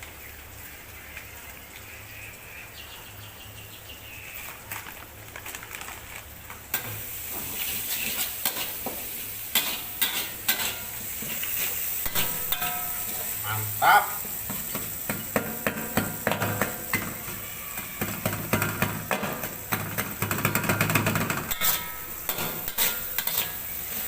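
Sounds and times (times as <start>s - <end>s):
food sizzling in a wok: 0.0s - 3.4s, 6.3s - 24.0s.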